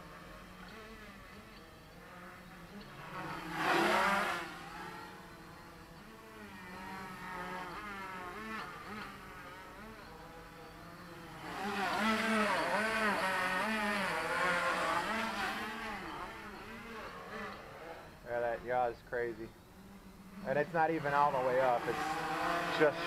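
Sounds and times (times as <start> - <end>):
quadcopter motors buzzing: 0.0 - 23.0.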